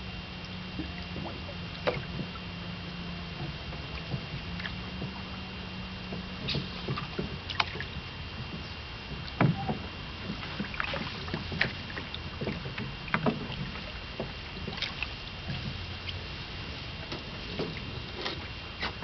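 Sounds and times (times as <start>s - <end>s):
boat knocking: 0.0s - 19.0s
steady low hum: 0.0s - 19.0s
water splashing: 0.4s - 19.0s.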